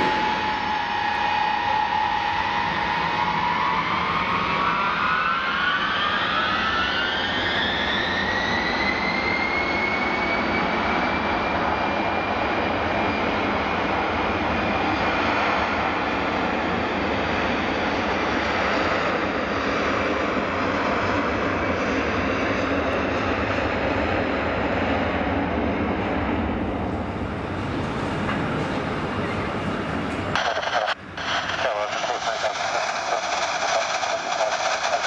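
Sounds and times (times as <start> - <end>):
jet engines spooling up: 0.0 - 35.0.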